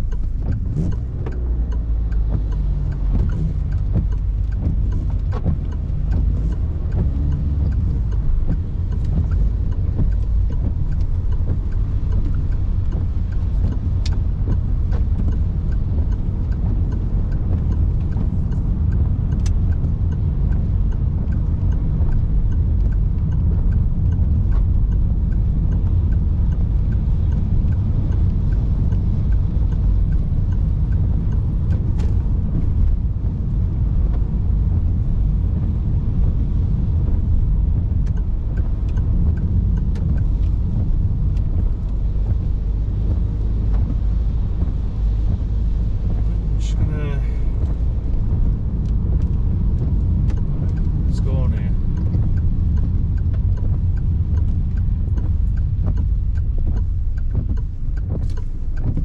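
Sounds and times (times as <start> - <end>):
car engine rumble: 0.0 - 59.0
faint ticks: 0.0 - 59.0
tyres on road: 0.0 - 59.0.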